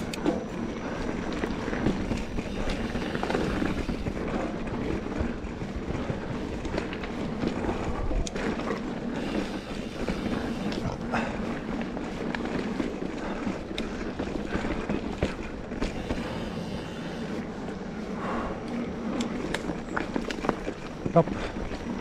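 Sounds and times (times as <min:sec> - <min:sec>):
bike tyre and frame rattle: 0:00.0 - 0:22.0
wind rumble on microphone: 0:00.0 - 0:22.0.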